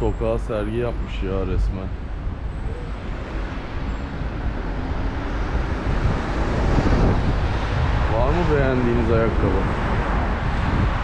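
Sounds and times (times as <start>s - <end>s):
city street traffic: 0.0s - 11.0s
wind buffeting microphone: 0.0s - 11.0s.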